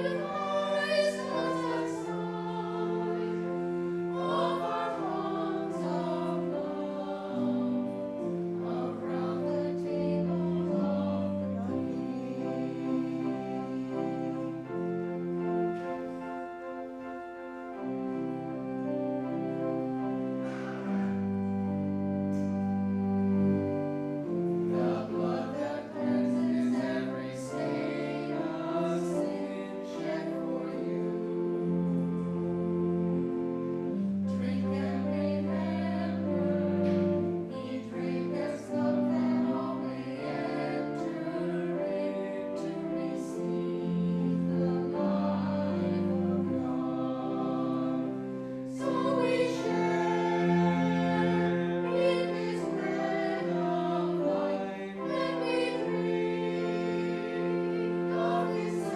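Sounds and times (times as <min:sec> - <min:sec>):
choir singing: 0:00.0 - 0:58.9
instrumental accompaniment: 0:00.0 - 0:58.9.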